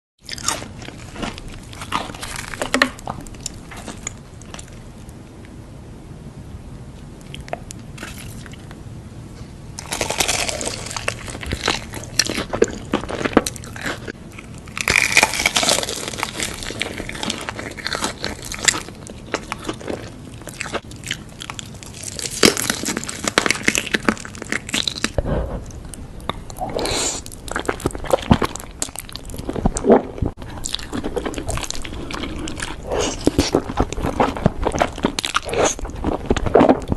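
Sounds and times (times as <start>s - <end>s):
crunchy chewing of food: 0.2s - 5.2s, 7.2s - 8.8s, 9.8s - 36.9s.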